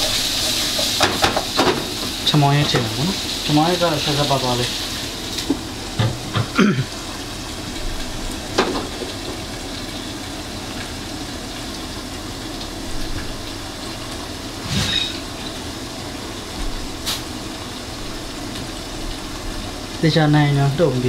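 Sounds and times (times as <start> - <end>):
curry sizzling in a pot: 0.0 - 21.0.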